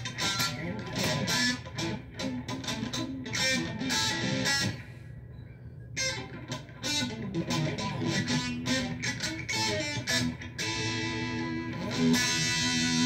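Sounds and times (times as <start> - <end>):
electric guitar picked notes: 0.0 - 4.9, 6.0 - 13.0.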